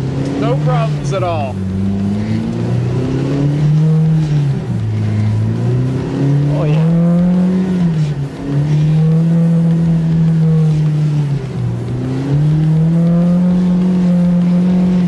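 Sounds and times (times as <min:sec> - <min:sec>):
engine running hard: 0:00.0 - 0:15.0.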